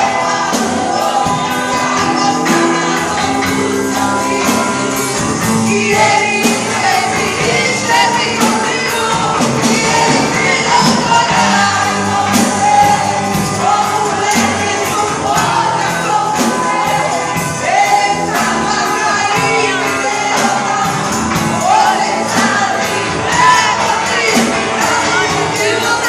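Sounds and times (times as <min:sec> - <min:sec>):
people singing: 0:00.0 - 0:26.0
steady drum beat: 0:00.0 - 0:26.0
worship band playing: 0:00.0 - 0:26.0.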